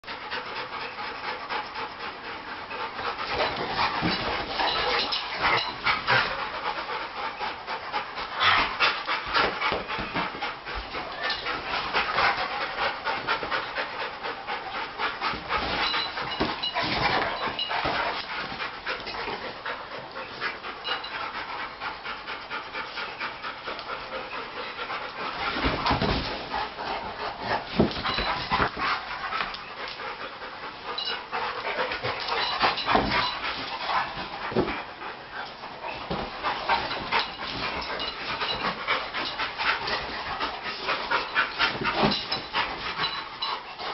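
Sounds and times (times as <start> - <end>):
dogs panting heavily: 0.0 - 43.9.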